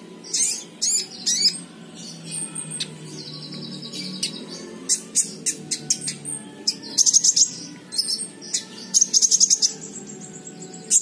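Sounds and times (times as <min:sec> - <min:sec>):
bird chirping and trilling: 0:00.1 - 0:11.0.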